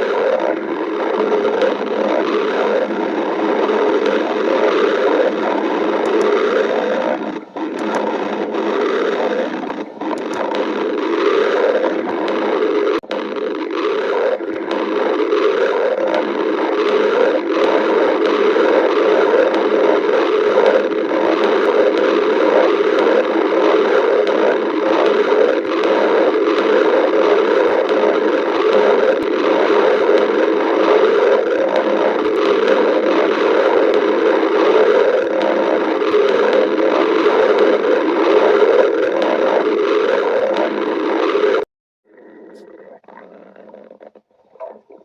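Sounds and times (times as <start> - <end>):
stomach growling and gurgling: 0.0 - 45.0.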